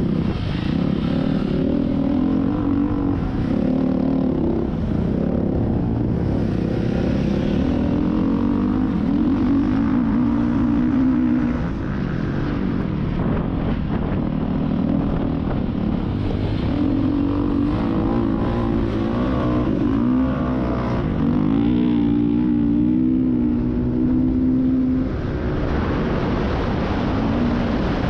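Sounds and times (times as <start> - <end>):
off-road vehicle engine: 0.0 - 28.0
wind rushing over microphone: 0.0 - 28.0.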